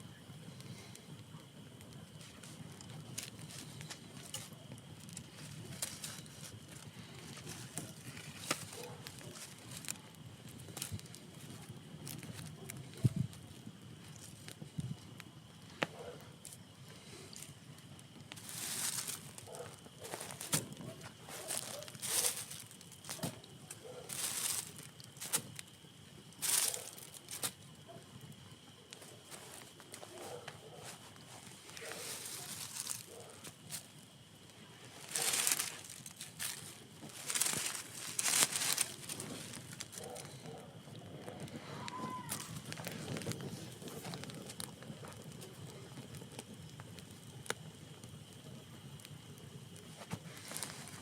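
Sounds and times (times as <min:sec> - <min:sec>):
campfire crackling and popping: 0:00.0 - 0:51.0.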